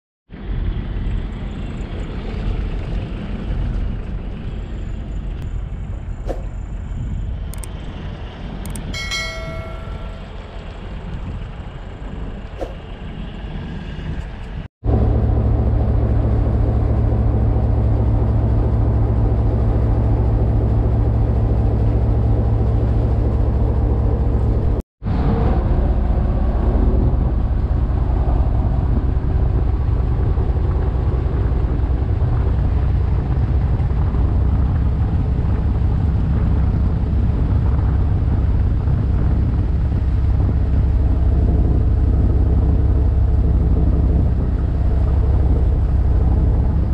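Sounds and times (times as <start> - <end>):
engine humming steadily: 0.3 - 46.9.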